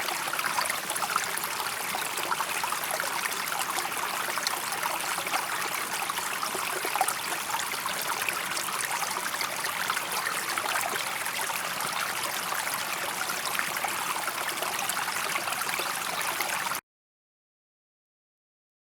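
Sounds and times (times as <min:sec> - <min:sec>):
stream babbling over stones: 0:00.0 - 0:16.8.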